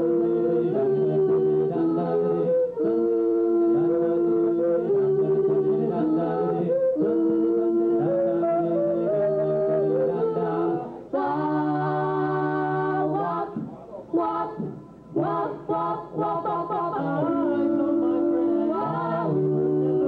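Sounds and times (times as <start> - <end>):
a cappella group singing harmony: 0.0 - 20.0.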